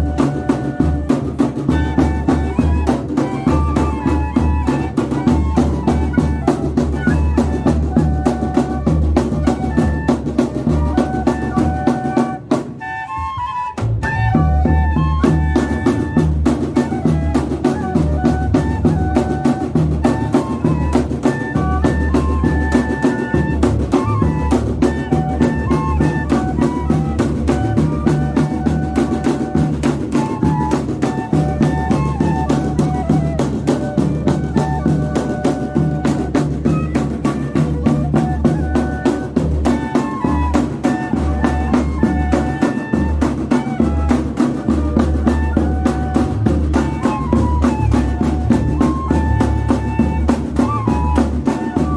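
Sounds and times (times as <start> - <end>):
snare drum: 0.0 - 51.9.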